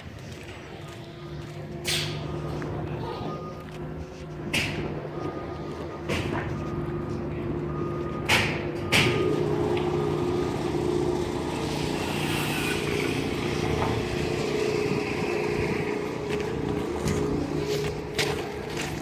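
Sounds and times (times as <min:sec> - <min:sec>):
vehicle engine running: 0:00.5 - 0:19.0.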